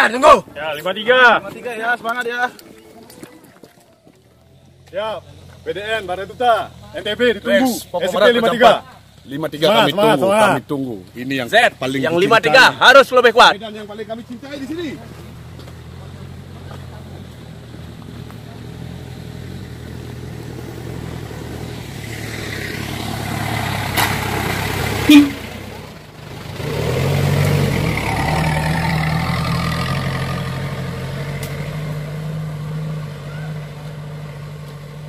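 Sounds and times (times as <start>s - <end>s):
vehicle engine running: 4.3s - 35.0s.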